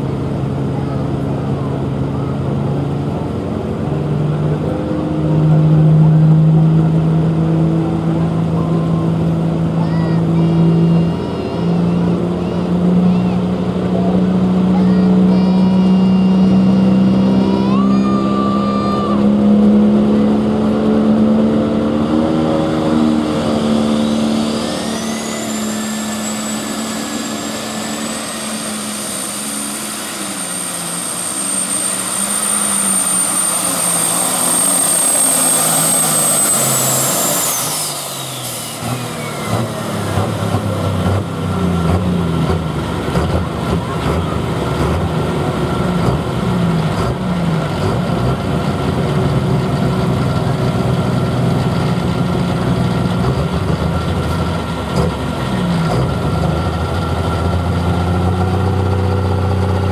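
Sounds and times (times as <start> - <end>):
diesel engine running unevenly: 0.0 - 59.9
diesel tractor engine under load: 0.0 - 59.9
high turbocharger whine: 0.0 - 59.9.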